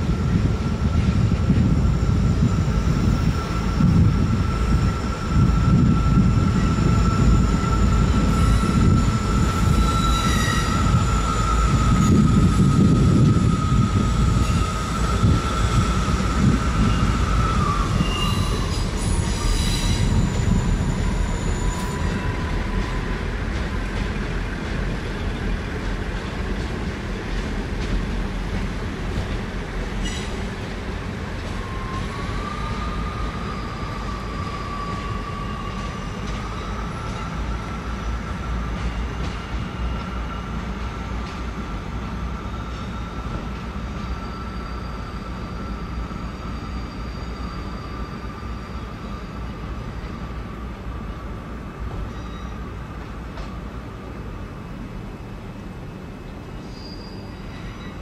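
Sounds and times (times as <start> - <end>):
train wheels clattering on rails: 0.0 - 50.4, 51.7 - 54.9
high wheel squeal: 0.1 - 24.0, 30.0 - 30.5, 31.5 - 41.1, 41.9 - 51.3, 52.0 - 53.7, 56.6 - 58.0.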